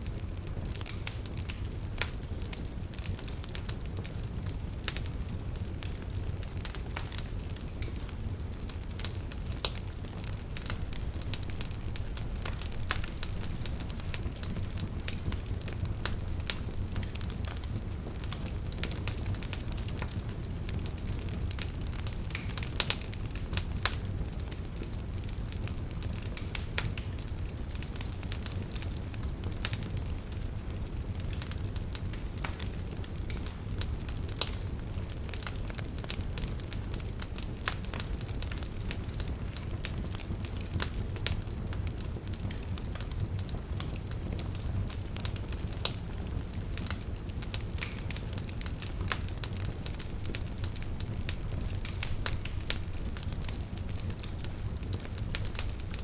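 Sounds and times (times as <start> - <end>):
fire crackling and popping: 0.0 - 56.0
flames rumbling: 0.0 - 56.0.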